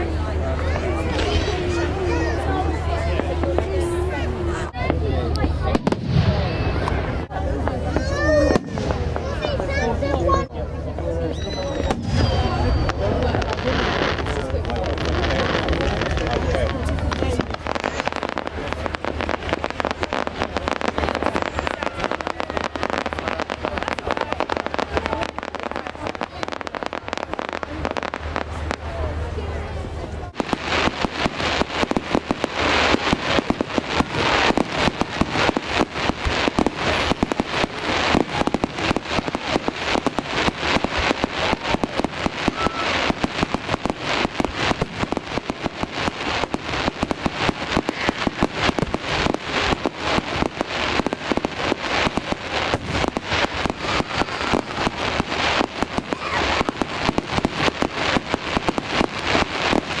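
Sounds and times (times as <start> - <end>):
fireworks bangs and crackles: 0.0 - 60.0.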